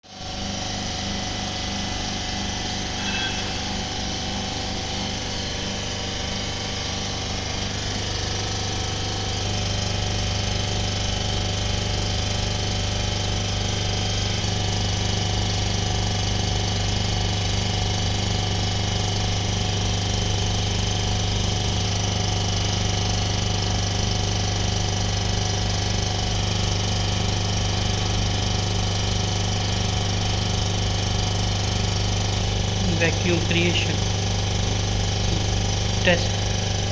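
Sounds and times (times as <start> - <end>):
vacuum pump pulsing hum: 0.1 - 36.9.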